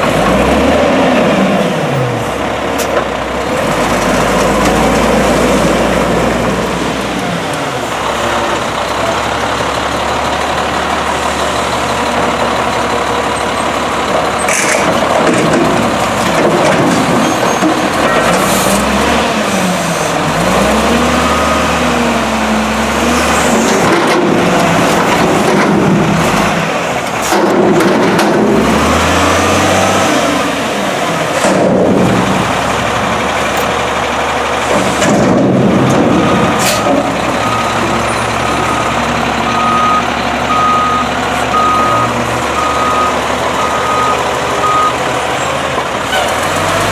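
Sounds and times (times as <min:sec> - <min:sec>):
diesel truck engine revving: 0:00.0 - 0:46.9.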